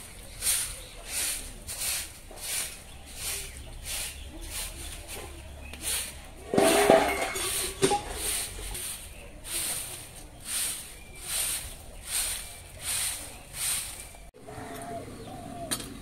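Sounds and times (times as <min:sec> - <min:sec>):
broom sweeping concrete: 0:00.0 - 0:14.4.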